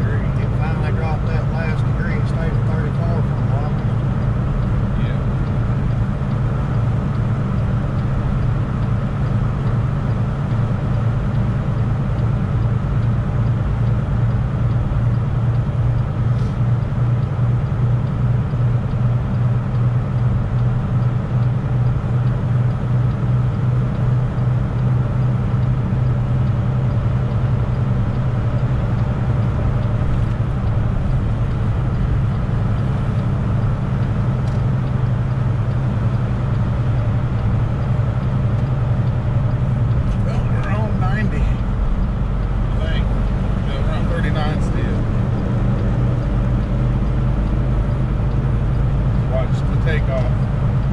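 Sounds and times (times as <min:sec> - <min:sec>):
road noise: 0:00.0 - 0:50.9
truck diesel engine droning: 0:00.0 - 0:50.9.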